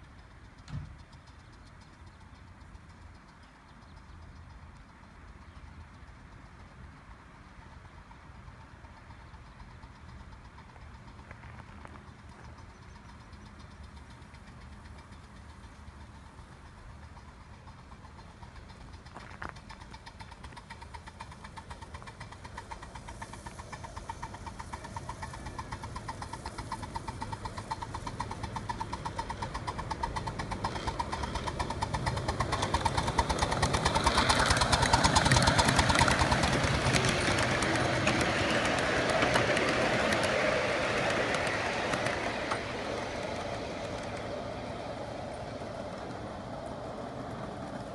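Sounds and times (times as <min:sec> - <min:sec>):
miniature steam locomotive passing: 0:00.0 - 0:47.9.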